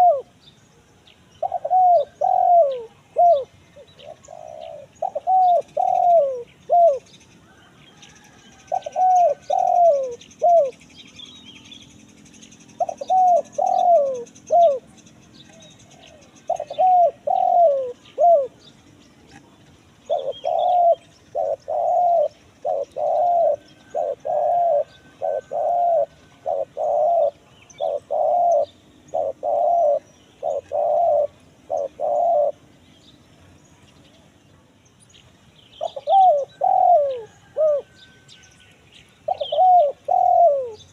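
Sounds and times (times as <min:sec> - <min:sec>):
dove cooing: 0:00.0 - 0:00.4, 0:01.4 - 0:10.8, 0:12.7 - 0:18.8, 0:19.4 - 0:32.8, 0:35.8 - 0:38.3, 0:39.2 - 0:40.9
faint bird chirps: 0:00.0 - 0:40.9.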